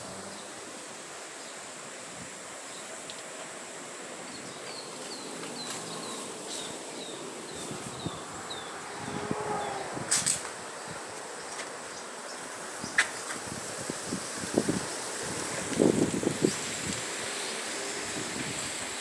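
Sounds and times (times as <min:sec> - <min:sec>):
high insect whine: 0:00.0 - 0:18.8
background hiss: 0:00.0 - 0:19.0.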